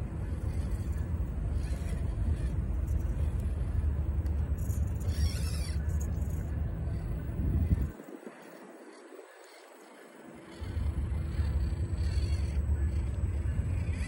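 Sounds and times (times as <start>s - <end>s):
toy car motor whirring: 0.0s - 14.0s
wind buffeting microphone: 0.0s - 14.0s.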